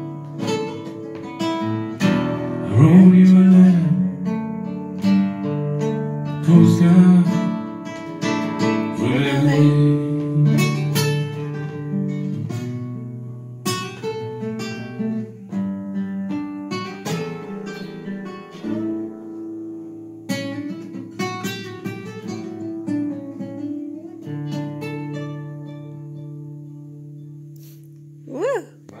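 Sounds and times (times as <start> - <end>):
solo acoustic guitar chords: 0.0 - 29.0.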